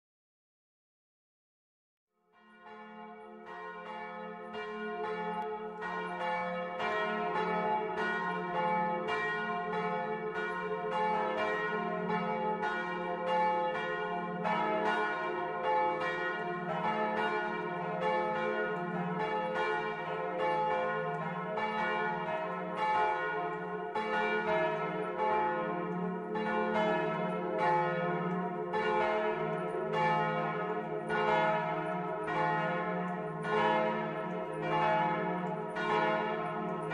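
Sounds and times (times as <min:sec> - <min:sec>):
church bells ringing: 0:02.4 - 0:36.9.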